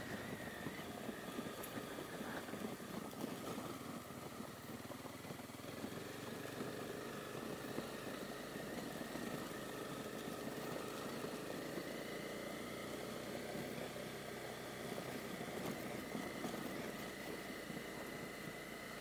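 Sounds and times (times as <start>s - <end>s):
motorcycle engine running: 0.0s - 19.0s
tyres on gravel: 0.0s - 19.0s.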